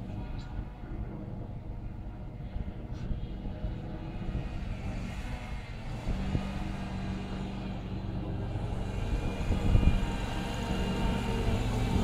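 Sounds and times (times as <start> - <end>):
wheel loader engine running: 0.0 - 12.0.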